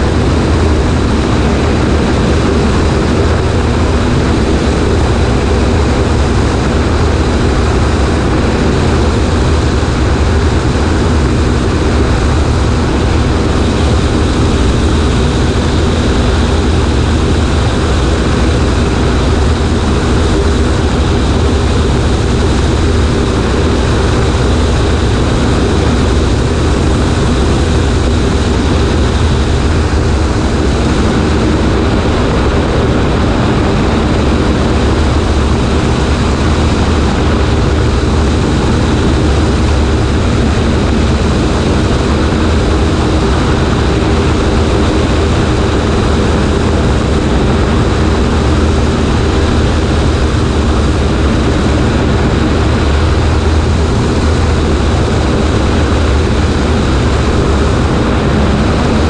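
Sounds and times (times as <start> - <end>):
light plane engine droning: 0.0 - 59.0
wind rushing: 0.0 - 59.0.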